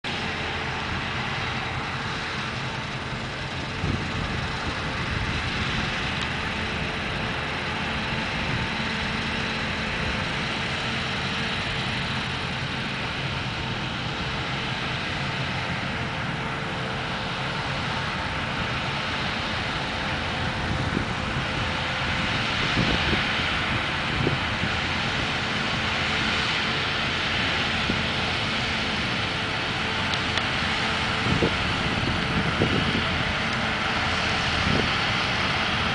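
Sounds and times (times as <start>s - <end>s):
combine harvester running: 0.0s - 35.9s
constant mechanical whine: 0.0s - 35.9s.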